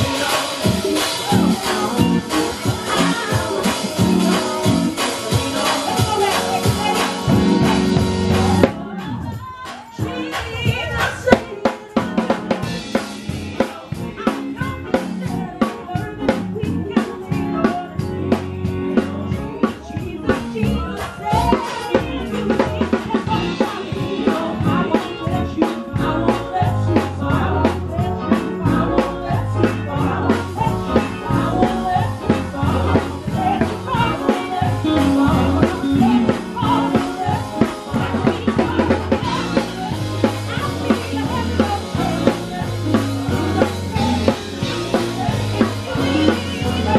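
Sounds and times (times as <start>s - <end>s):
lead melody: 0.0s - 10.9s, 11.9s - 46.9s
bass guitar line: 0.0s - 46.9s
drum kit beat: 0.0s - 46.9s.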